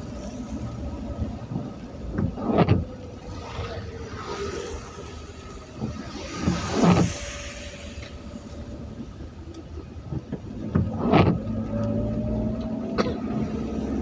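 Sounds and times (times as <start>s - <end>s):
steady engine hum: 0.0s - 14.0s
tyres rushing on wet road: 0.0s - 14.0s.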